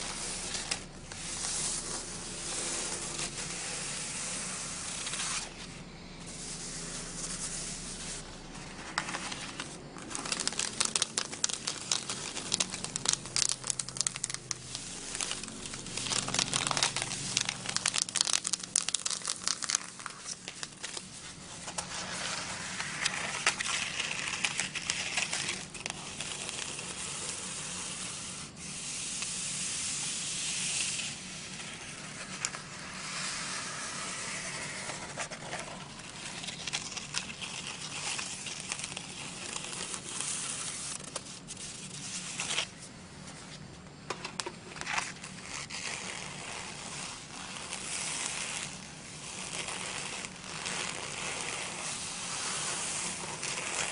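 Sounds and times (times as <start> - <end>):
paper rustling and crackling: 0.0 - 53.9.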